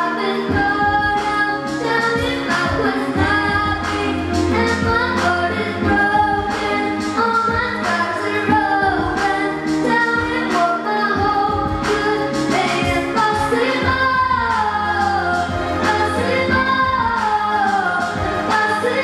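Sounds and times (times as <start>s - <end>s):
backing music with steady beat: 0.0s - 19.0s
girl singing into a microphone: 0.0s - 19.0s.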